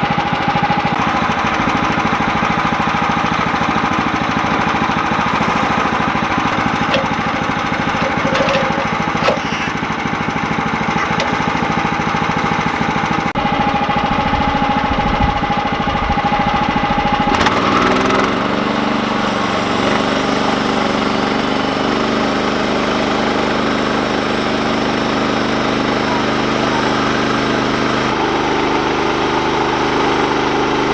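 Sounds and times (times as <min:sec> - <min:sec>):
sawmill gas engine running: 0:00.0 - 0:30.9.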